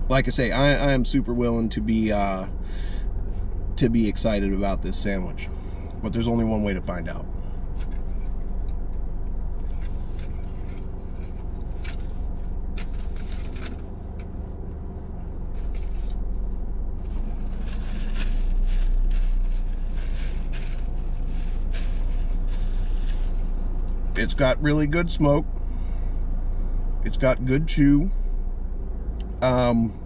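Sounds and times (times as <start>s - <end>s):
car engine rumble from inside cabin: 0.0s - 30.0s.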